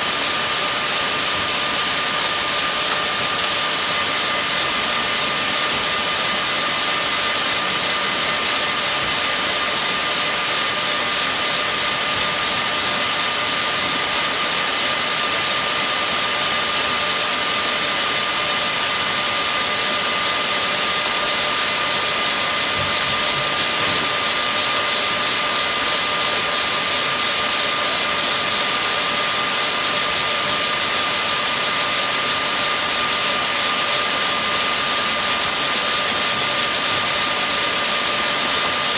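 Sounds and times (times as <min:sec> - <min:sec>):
knitting machines whirring: 0:00.0 - 0:38.9.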